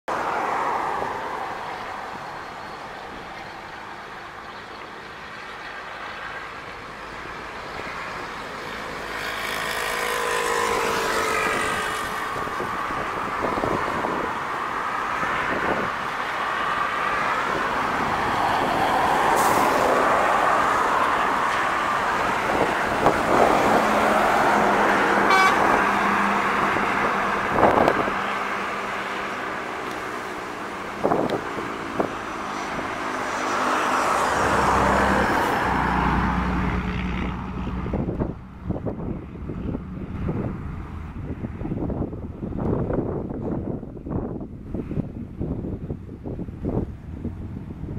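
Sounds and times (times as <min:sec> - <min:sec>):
highway traffic: 0:00.0 - 0:47.9
truck passing: 0:00.1 - 0:47.9.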